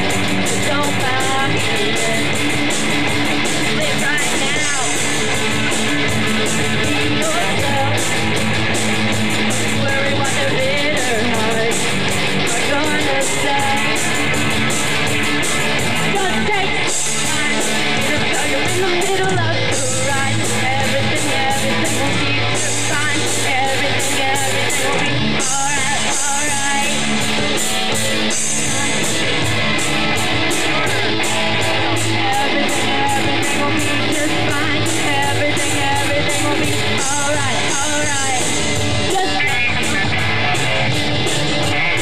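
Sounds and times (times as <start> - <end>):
bass guitar: 0.0 - 42.0
drum kit: 0.0 - 42.0
electric guitars: 0.0 - 42.0.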